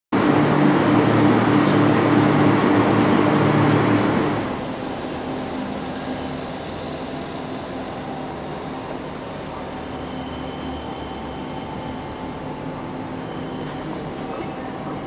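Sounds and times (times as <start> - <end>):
electric train humming: 0.2 - 15.0.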